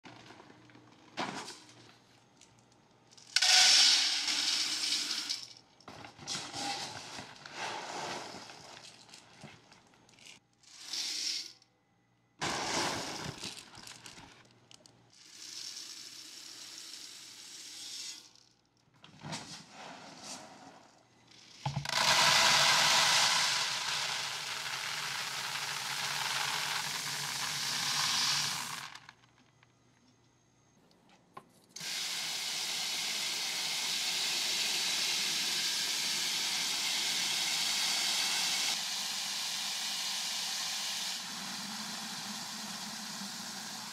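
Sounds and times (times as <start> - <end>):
dry beans pouring into containers: 2.5 - 11.6, 12.4 - 14.4, 15.2 - 18.5, 19.7 - 29.4, 32.7 - 43.9.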